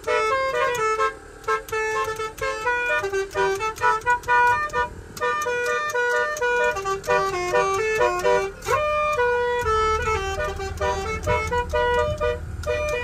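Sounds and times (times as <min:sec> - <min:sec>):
musical air horns playing a tune: 0:00.0 - 0:13.0.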